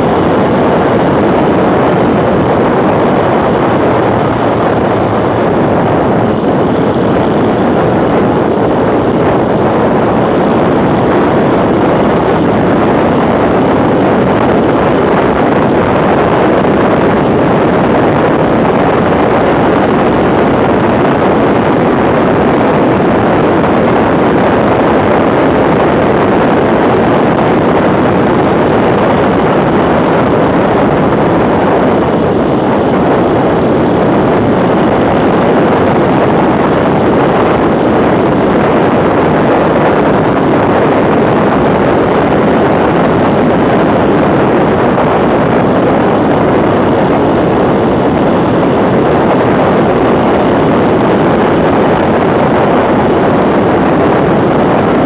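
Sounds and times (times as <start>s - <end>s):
motorcycle engine running: 0.0s - 51.9s
wind buffeting microphone: 0.0s - 55.0s.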